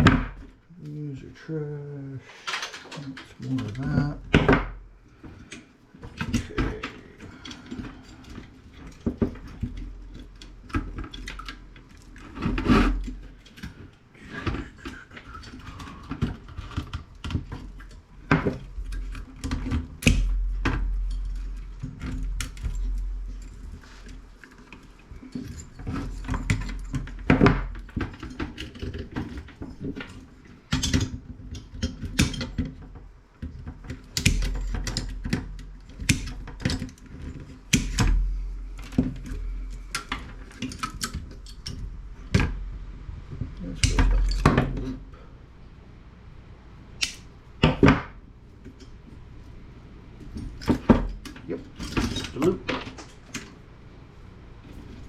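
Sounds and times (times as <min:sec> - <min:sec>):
clatter of parts and tools: 0:02.3 - 0:42.6, 0:43.4 - 0:45.1, 0:50.2 - 0:53.6.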